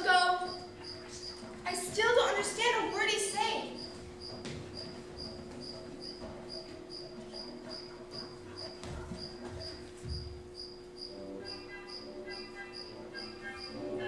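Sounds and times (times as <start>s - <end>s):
steady low hum: 0.0s - 14.0s
cricket chirping: 0.4s - 1.6s, 3.7s - 14.0s.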